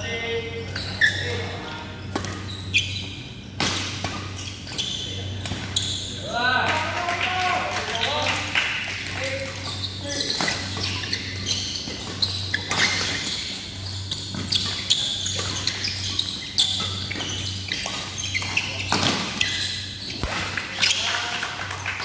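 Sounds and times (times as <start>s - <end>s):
court shoes squeaking: 0.0s - 22.0s.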